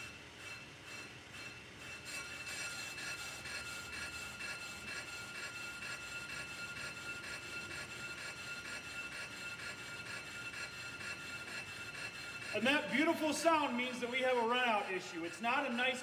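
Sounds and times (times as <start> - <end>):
lathe cutter scraping brake rotor: 0.0 - 16.0.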